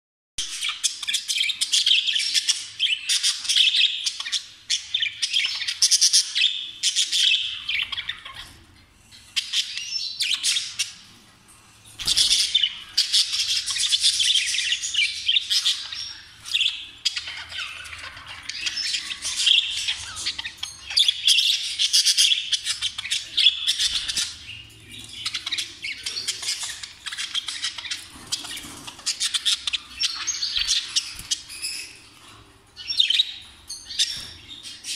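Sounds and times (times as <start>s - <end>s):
budgerigars chattering and warbling: 0.4s - 11.2s, 12.0s - 34.9s.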